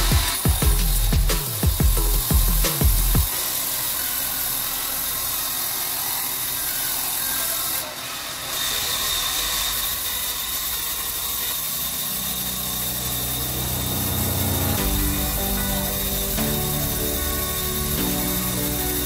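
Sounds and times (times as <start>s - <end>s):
band saw cutting wood: 0.0s - 19.0s
steady high whine: 0.0s - 19.0s.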